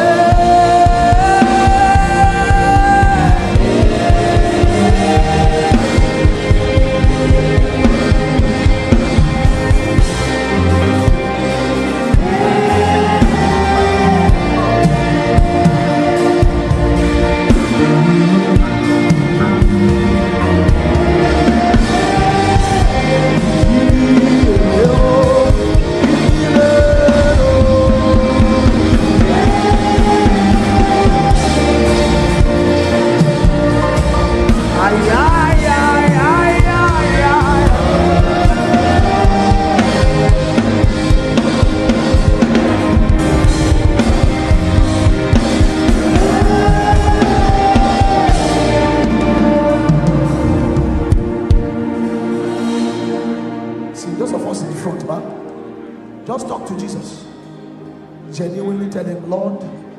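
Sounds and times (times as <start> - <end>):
steady drum beat: 0.0 - 52.1
voices singing: 0.0 - 54.8
keyboard chords: 0.0 - 59.9.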